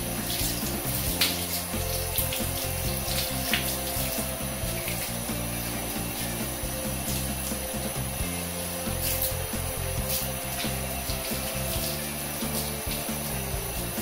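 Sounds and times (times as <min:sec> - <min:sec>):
background music: 0:00.0 - 0:14.0
shower spraying water: 0:00.0 - 0:14.0
water splashing on tiles: 0:00.0 - 0:14.0.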